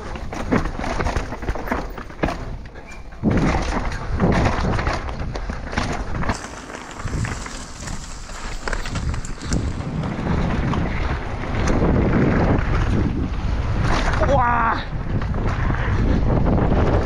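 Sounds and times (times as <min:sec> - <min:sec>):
mountain bike rattling and knocking: 0:00.0 - 0:17.0
wind buffeting the microphone: 0:00.0 - 0:17.0.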